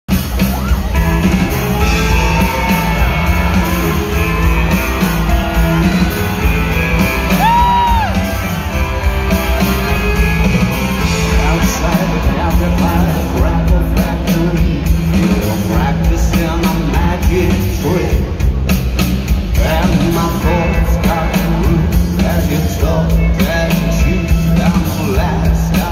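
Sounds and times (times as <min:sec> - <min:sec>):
bass guitar: 0:00.0 - 0:25.9
drums: 0:00.0 - 0:25.9
person singing: 0:00.1 - 0:18.6, 0:19.5 - 0:25.9
electric guitar: 0:00.1 - 0:25.9.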